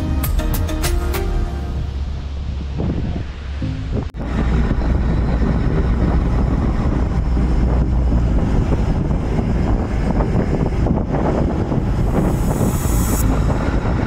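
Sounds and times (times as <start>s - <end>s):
speedboat engine rumble: 0.0s - 14.0s
wind buffeting microphone: 1.8s - 14.0s.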